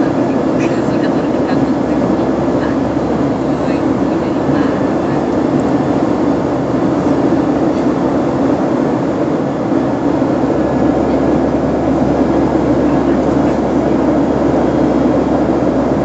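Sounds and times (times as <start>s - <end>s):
plane cabin rumble: 0.0s - 16.0s.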